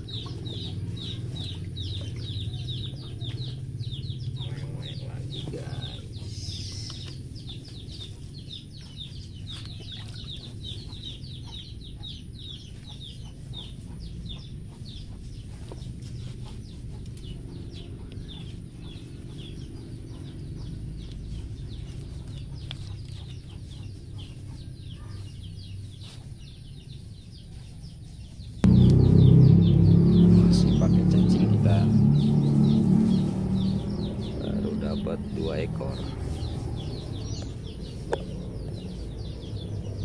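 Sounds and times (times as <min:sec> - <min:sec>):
steady low rumble: 0:00.0 - 0:24.8, 0:28.6 - 0:40.0
birds peeping: 0:00.0 - 0:40.0.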